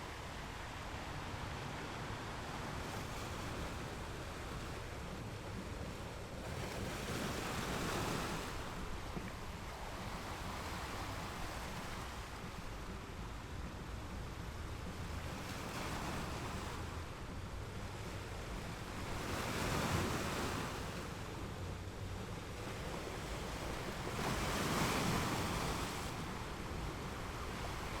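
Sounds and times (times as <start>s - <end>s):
ocean waves breaking on beach: 0.0s - 28.0s
wind rumble on microphone: 0.0s - 28.0s.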